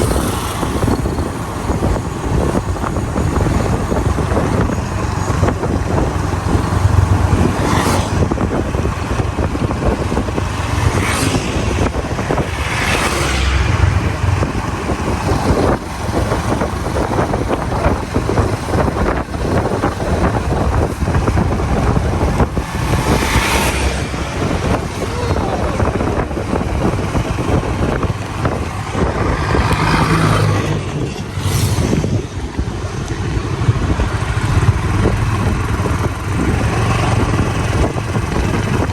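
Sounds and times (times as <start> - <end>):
road vehicle rumble: 0.0 - 38.9.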